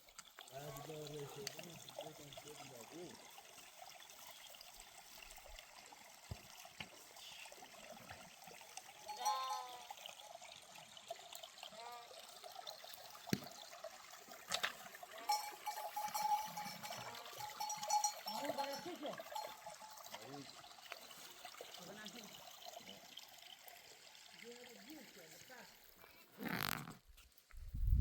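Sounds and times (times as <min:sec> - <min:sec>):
stream trickling: 0:00.0 - 0:28.0.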